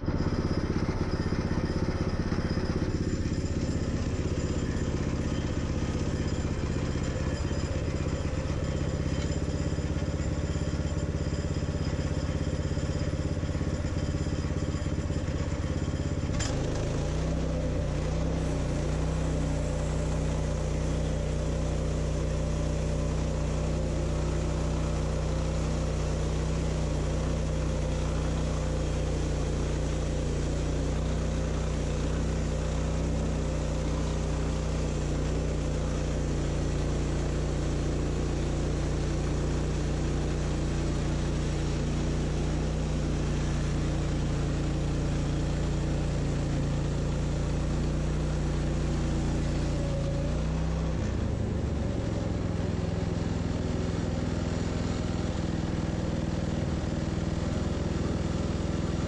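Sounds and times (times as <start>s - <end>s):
sawmill engine running under load: 0.0s - 59.0s.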